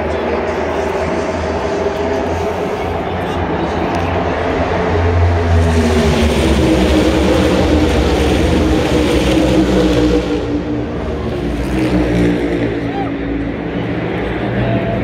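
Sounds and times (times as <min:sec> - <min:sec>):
pack of race cars roaring past: 0:00.0 - 0:15.0.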